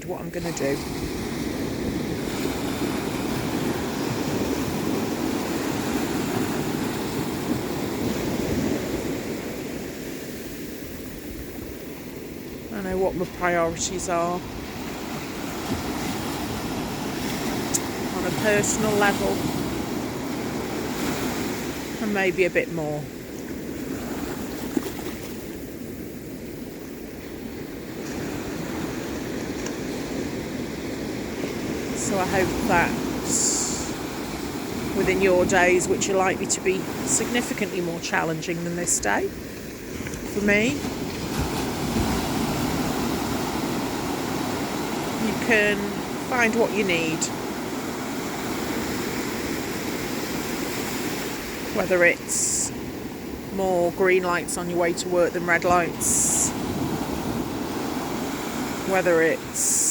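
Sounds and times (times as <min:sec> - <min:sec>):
sea surf breaking: 0:00.0 - 0:25.9, 0:27.2 - 0:59.9
wind buffeting microphone: 0:00.0 - 0:59.9.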